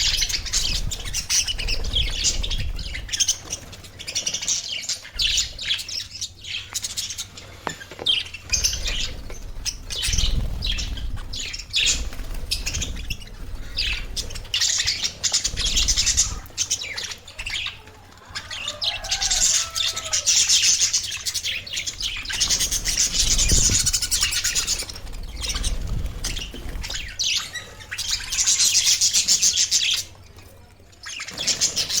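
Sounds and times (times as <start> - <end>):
budgerigars chirping and chattering: 0.0 - 32.0.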